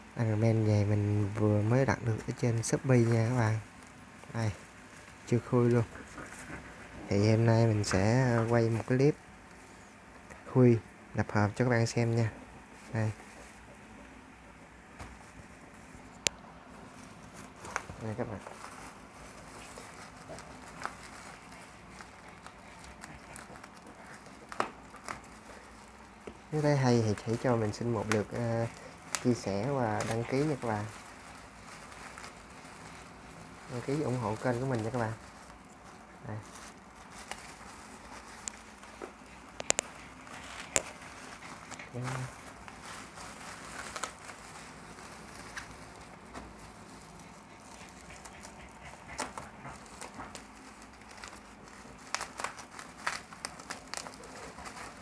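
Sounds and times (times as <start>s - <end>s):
bubble wrap crinkling: 0.0s - 55.0s.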